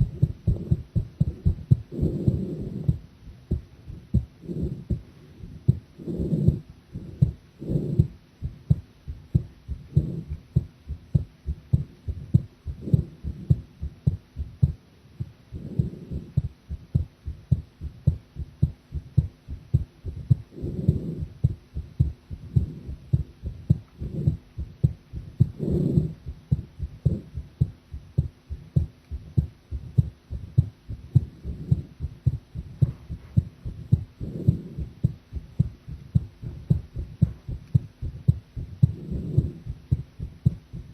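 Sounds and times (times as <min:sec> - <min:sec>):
heartbeat thumps: 0:00.0 - 0:40.9
soft low noise: 0:00.0 - 0:40.9.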